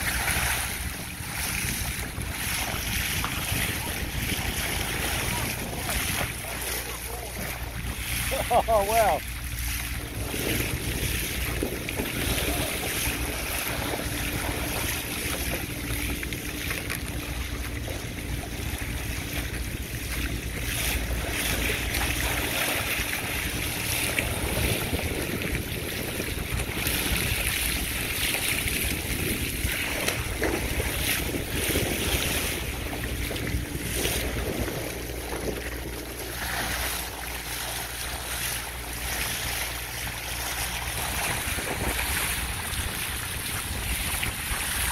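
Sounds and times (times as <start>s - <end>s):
bow wave rushing and splashing: 0.0s - 44.9s
wind buffeting microphone: 0.0s - 44.9s.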